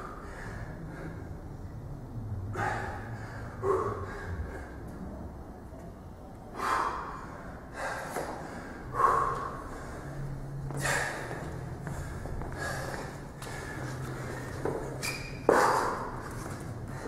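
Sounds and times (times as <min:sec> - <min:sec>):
man breathing hard: 0:00.0 - 0:01.5, 0:02.5 - 0:05.1, 0:06.5 - 0:17.0.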